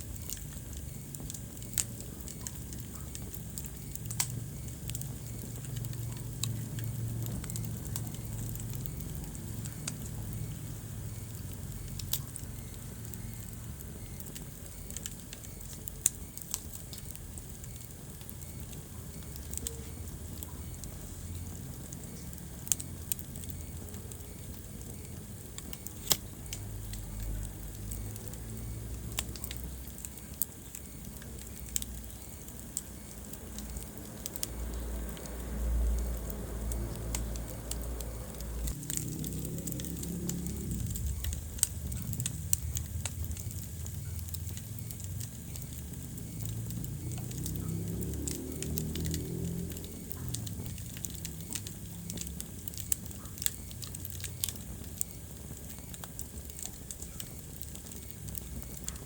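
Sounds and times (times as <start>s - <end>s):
fire crackles and pops: 0.0s - 59.0s
low rumble of flames: 0.0s - 59.0s.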